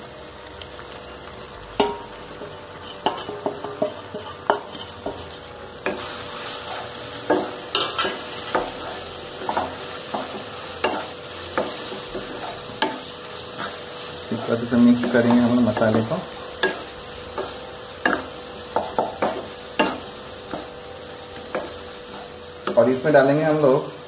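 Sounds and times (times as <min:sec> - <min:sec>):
tomatoes sizzling in oil: 0:00.0 - 0:24.0.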